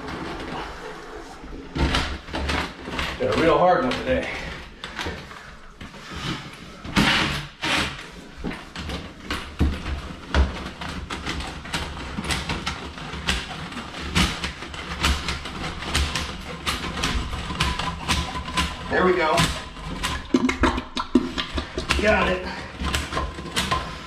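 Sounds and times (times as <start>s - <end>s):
toilet auger clicking and knocking: 0.0s - 24.0s.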